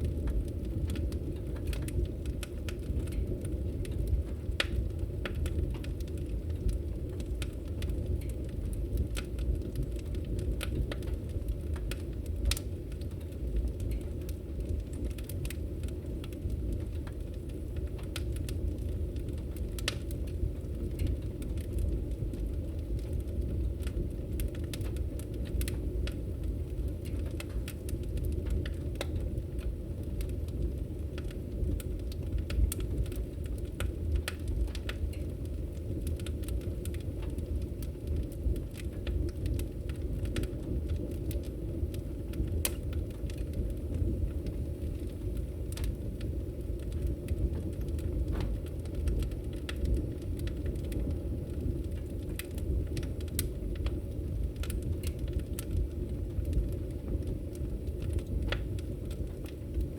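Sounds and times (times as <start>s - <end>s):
fireplace logs crackling: 0.0s - 59.9s
low rumble of fire: 0.0s - 59.9s.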